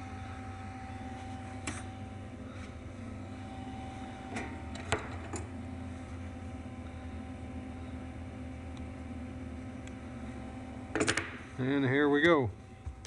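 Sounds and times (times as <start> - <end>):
welding machine humming: 0.0 - 13.0.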